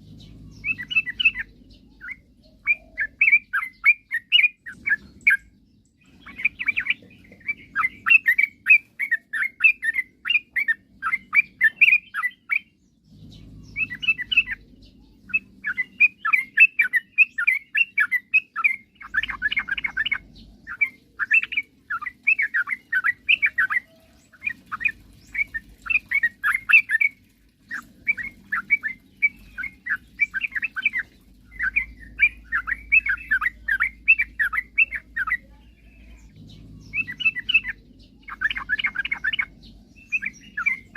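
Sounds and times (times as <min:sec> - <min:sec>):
bulbul singing: 0:00.0 - 0:40.9
faint low hum: 0:00.0 - 0:40.9.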